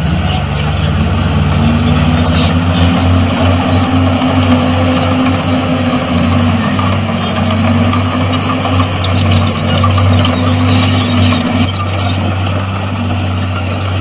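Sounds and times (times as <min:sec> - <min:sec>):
heavy diesel engine hum: 0:00.0 - 0:14.0.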